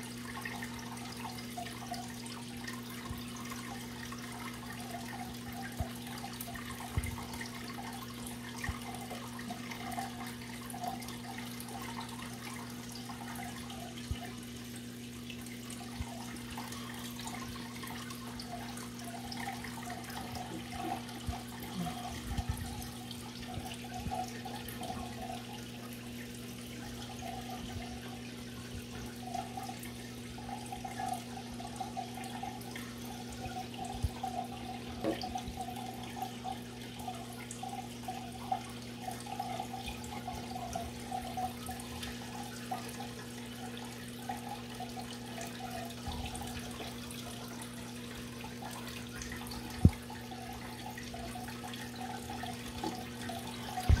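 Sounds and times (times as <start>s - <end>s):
aquarium filter pump humming: 0.0s - 54.0s
water burbling and trickling: 0.0s - 54.0s.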